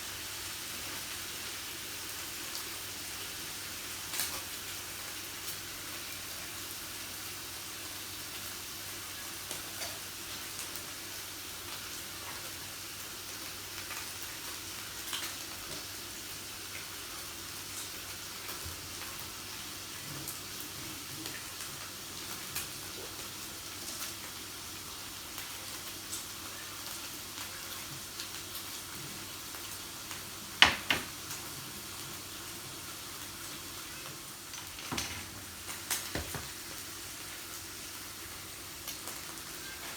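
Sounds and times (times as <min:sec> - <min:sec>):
meat sizzling on grill: 0:00.0 - 0:39.9.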